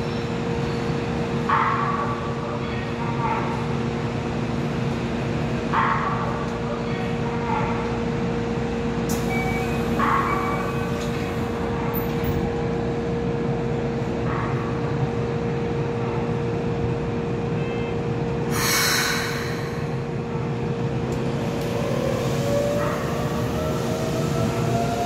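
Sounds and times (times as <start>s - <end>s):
constant low hum: 0.0s - 25.0s
train wheels rumbling on rail: 0.0s - 25.0s.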